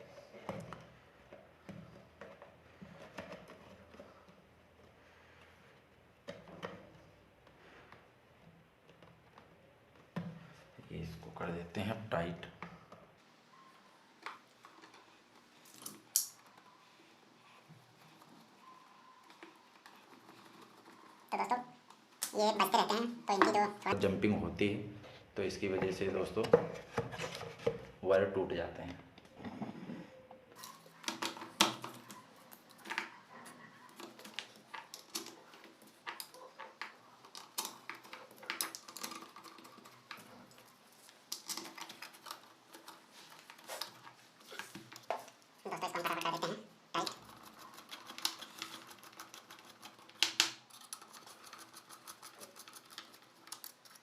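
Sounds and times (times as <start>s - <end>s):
hands and tool clicking and scraping: 0.0s - 10.4s, 14.2s - 22.4s, 29.1s - 54.0s.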